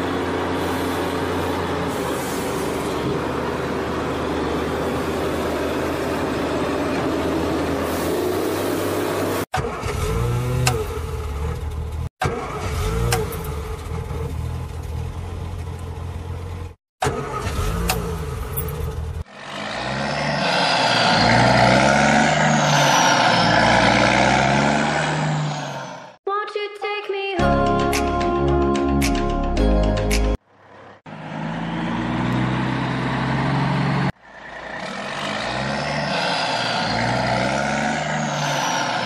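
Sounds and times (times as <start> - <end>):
vehicle engine revving: 0.0 - 15.6, 16.2 - 26.1, 30.5 - 39.0.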